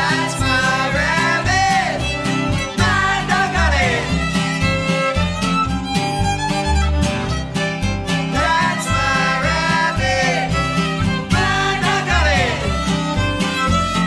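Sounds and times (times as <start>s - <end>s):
acoustic guitar: 0.0s - 14.0s
fiddle: 0.0s - 14.0s
upright bass pulsing: 0.0s - 14.0s.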